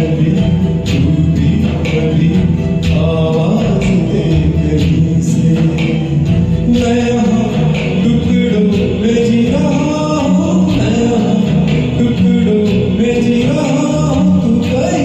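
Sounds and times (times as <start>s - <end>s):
karaoke backing music: 0.0s - 15.0s
person singing: 0.0s - 15.0s.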